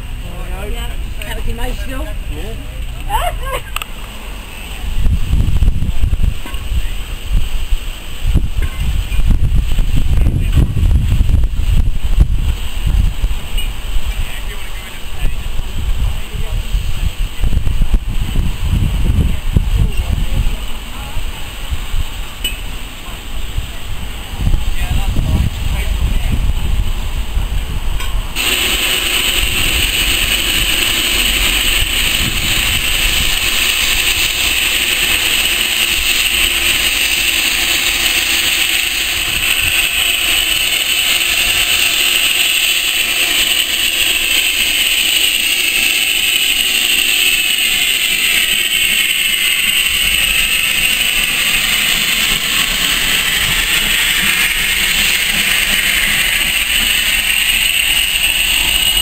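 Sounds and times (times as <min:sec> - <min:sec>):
steam train passing: 0:00.0 - 0:59.0.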